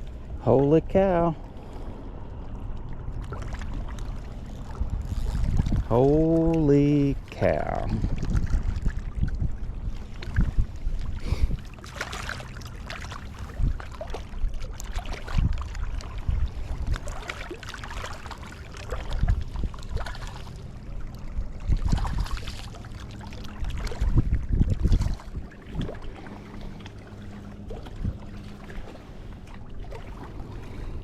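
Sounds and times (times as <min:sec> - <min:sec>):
wind buffeting microphone: 0:00.0 - 0:11.9, 0:13.2 - 0:18.2, 0:18.9 - 0:31.0
water lapping at bank: 0:00.0 - 0:31.0.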